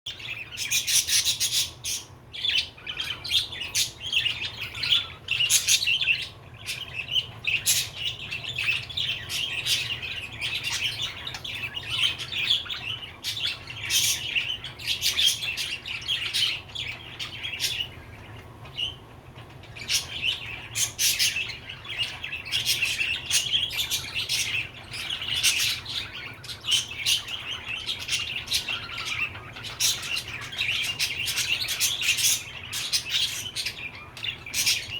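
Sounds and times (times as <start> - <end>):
budgerigar chirping: 0.1 - 19.0, 19.7 - 34.9.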